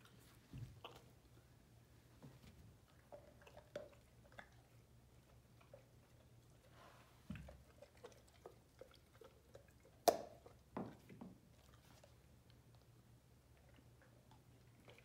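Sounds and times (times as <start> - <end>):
dog chewing: 0.0 - 1.5, 2.7 - 6.7, 7.3 - 15.0.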